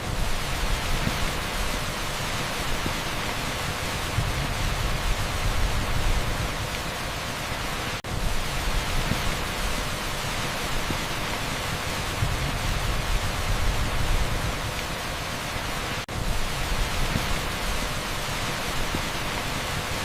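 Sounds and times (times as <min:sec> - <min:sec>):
torrential rain on asphalt: 0:00.0 - 0:20.0.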